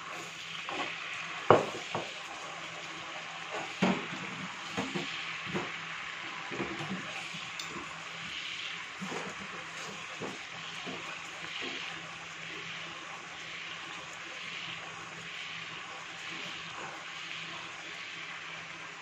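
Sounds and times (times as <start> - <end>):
chicken sizzling in a pan: 0.0 - 19.0.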